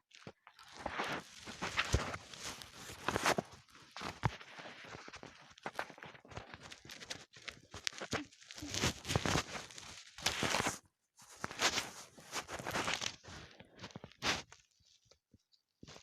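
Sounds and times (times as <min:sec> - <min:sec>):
rustling and scraping: 0:00.6 - 0:14.6.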